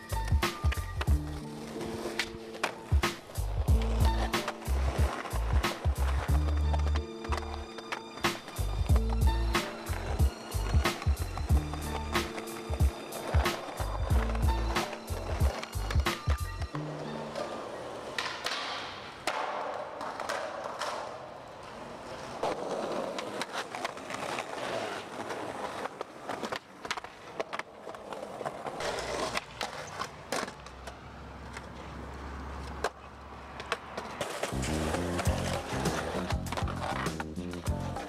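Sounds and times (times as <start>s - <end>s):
skateboard wheels rolling on concrete: 0.0s - 38.0s
skateboard popping and landing clacks: 0.4s - 38.0s.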